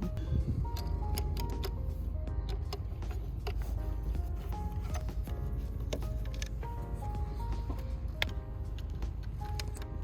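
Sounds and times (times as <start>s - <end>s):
synth music with pulsing bass: 0.0s - 10.0s.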